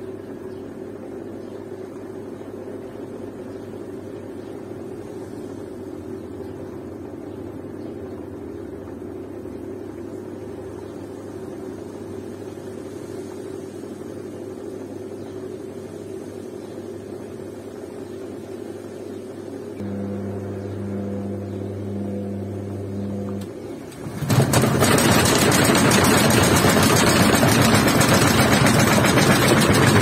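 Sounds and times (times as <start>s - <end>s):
washing machine hum: 0.0s - 30.0s.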